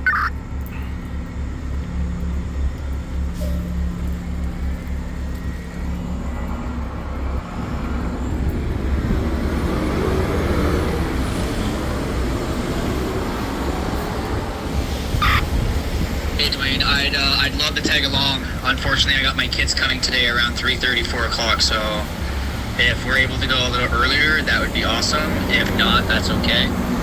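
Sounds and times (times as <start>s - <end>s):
traffic engine hum: 0.0s - 27.0s.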